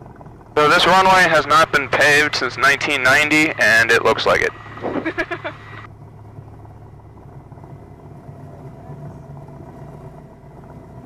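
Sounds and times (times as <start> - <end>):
airplane engine and propeller humming: 0.0 - 11.0.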